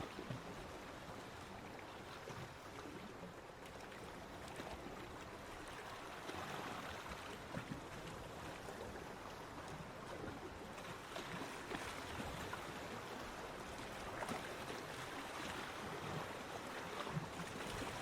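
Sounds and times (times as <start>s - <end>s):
small waves washing onto beach: 0.0s - 18.0s.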